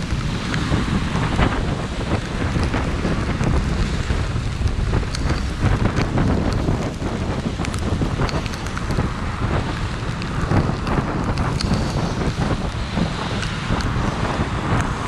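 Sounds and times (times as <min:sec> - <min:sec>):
close raindrop hits: 0:00.0 - 0:15.0
steady rain: 0:00.0 - 0:15.0
wind buffeting microphone: 0:00.0 - 0:15.0.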